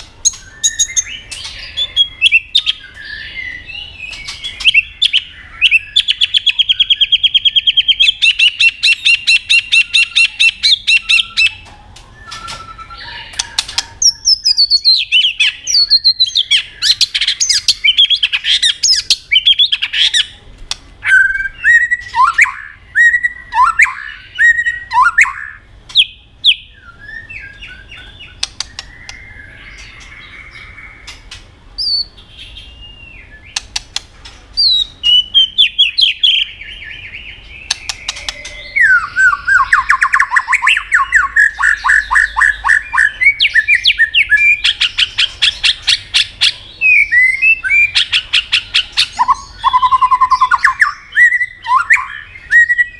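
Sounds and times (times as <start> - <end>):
songbird whistled song: 0.0 - 34.0, 34.6 - 52.9.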